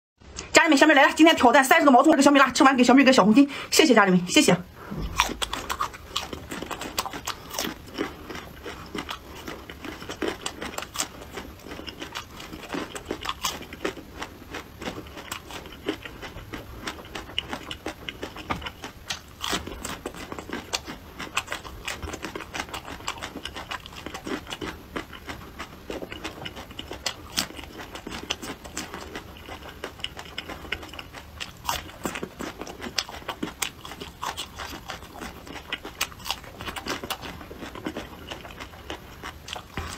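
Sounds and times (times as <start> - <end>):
person chewing crunchy food: 4.7 - 39.9.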